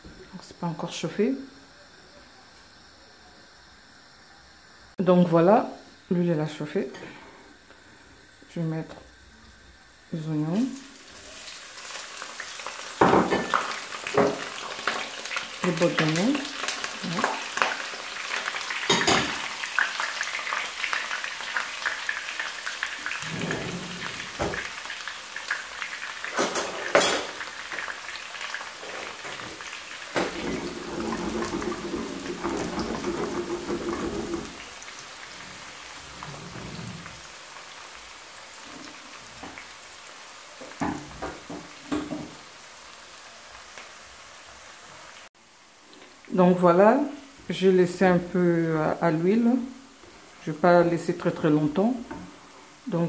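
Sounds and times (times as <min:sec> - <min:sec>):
onions sizzling in frying pan: 0:00.0 - 0:53.0.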